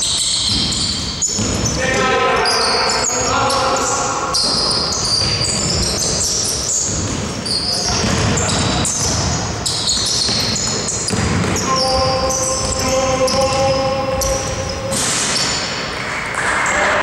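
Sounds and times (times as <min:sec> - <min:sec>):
sneakers squeaking: 0:00.0 - 0:16.9
basketball bouncing: 0:00.2 - 0:01.8, 0:03.2 - 0:16.4.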